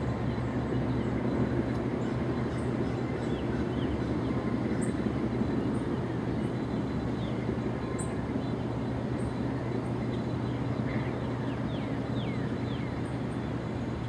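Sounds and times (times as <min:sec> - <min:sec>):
birds chirping: 0:00.0 - 0:14.0
diesel locomotive engine drone: 0:00.0 - 0:14.0.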